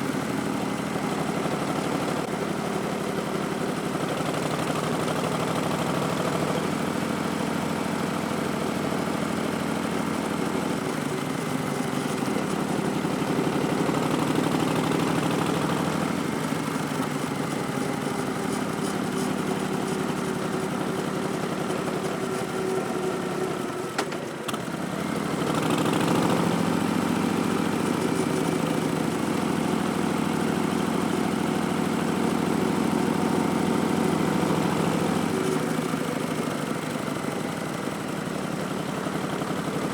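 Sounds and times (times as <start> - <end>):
motorcycle exhaust running: 0.1 - 39.9.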